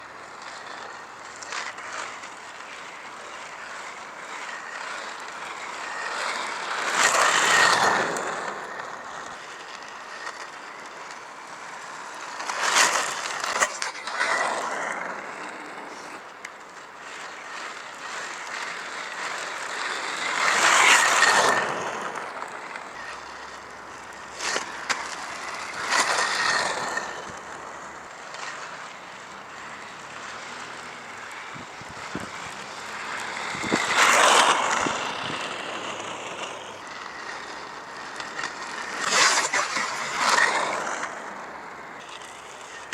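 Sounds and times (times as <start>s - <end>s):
inline skate wheels rolling: 0.0s - 42.9s
skate clicks and scrapes: 0.0s - 42.9s.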